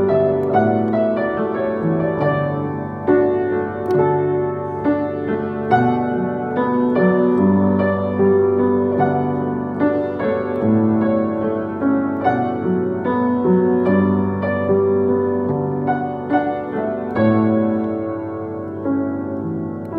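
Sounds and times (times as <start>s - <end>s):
slow acoustic piano melody: 0.0s - 19.9s.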